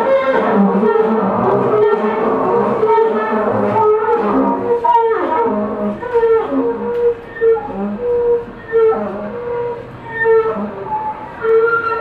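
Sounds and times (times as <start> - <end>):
double bass: 0.0 - 12.0.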